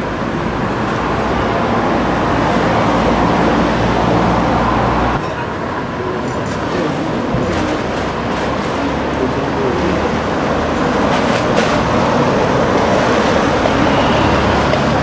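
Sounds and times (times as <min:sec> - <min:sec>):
loud rumbling background noise: 0:00.0 - 0:15.0.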